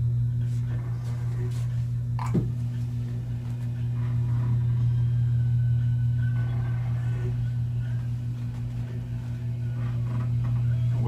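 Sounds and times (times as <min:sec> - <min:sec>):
faint music: 0:00.0 - 0:11.0
low electrical hum: 0:00.0 - 0:11.0.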